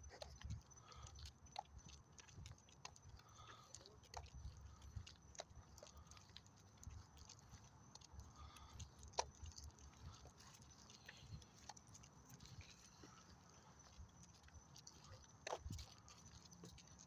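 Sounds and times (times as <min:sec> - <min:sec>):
light ticks and clicks: 0:00.0 - 0:17.0.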